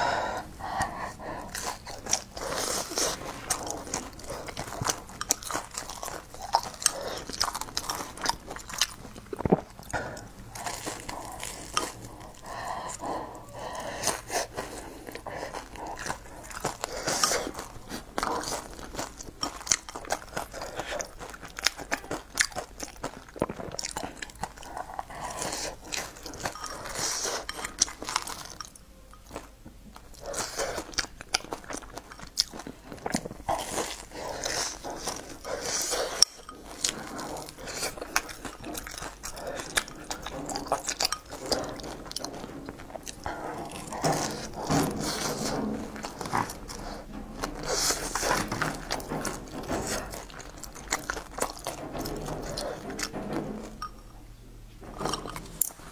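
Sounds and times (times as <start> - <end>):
person chewing and eating: 0.0 - 55.9.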